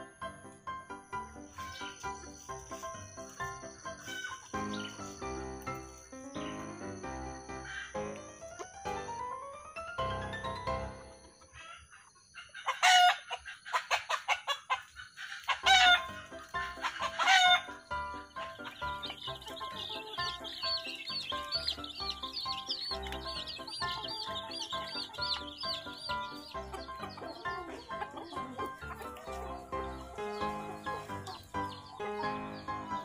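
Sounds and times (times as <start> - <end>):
chickens clucking: 1.2 - 6.8, 7.6 - 9.3, 10.8 - 33.0.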